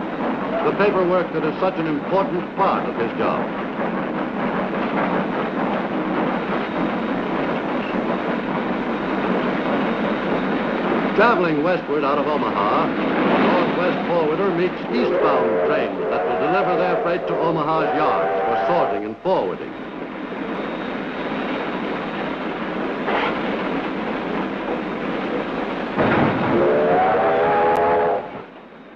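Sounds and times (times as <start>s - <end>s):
steam freight train rumbling: 0.0s - 28.9s.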